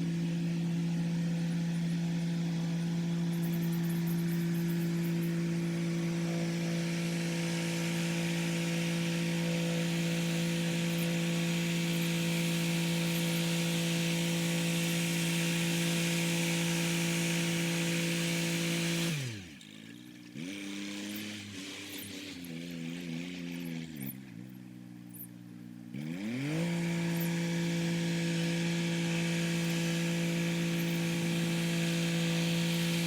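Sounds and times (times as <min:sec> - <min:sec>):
rotary tiller whine: 0:00.0 - 0:33.0
tractor engine drone: 0:00.0 - 0:33.0.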